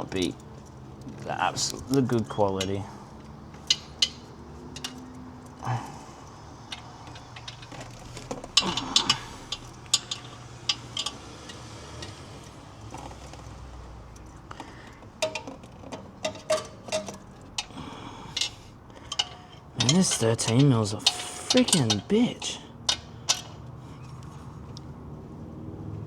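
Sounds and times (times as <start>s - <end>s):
metal tools clicking on metal: 0.0s - 24.9s.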